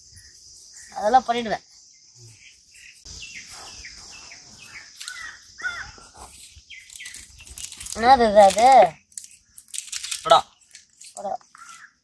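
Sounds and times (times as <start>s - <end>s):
bird chirps: 0.0s - 12.0s
insects droning: 0.0s - 12.0s.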